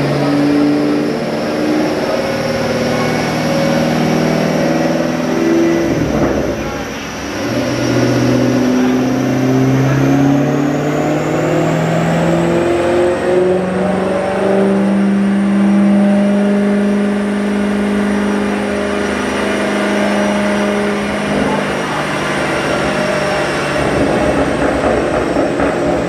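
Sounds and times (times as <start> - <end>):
car engine revving under load: 0.0 - 26.0
supercharger whine: 0.0 - 26.0.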